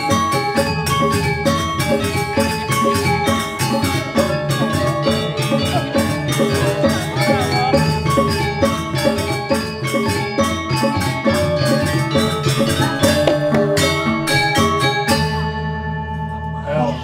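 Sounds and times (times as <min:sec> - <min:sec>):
gamelan metallophones playing: 0:00.0 - 0:17.0.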